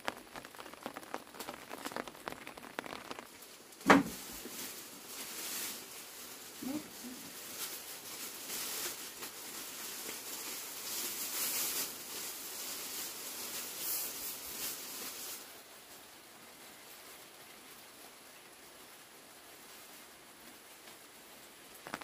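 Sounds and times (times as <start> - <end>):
faint steady hiss: 0.0 - 22.0
plastic sheeting rustling: 0.0 - 22.0.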